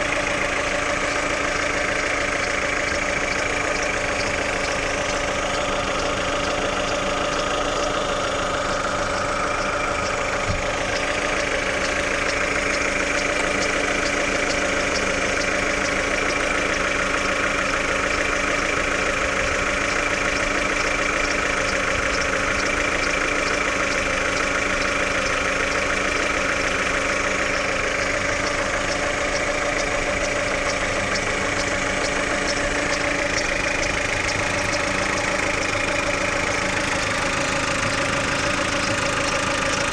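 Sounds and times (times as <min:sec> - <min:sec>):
car engine idling: 0:00.0 - 0:39.9
fast even engine ticking: 0:00.0 - 0:39.9.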